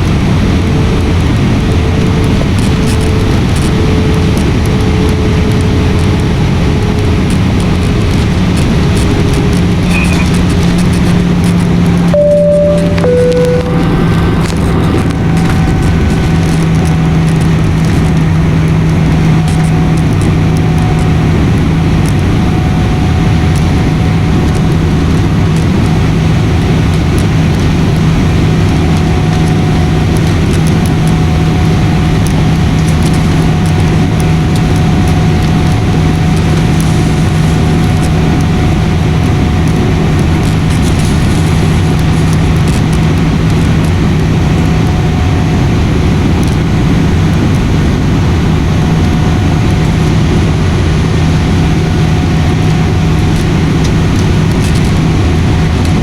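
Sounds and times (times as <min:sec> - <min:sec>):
airliner engines and airflow rushing: 0:00.0 - 0:56.0
constant low hum: 0:00.0 - 0:56.0.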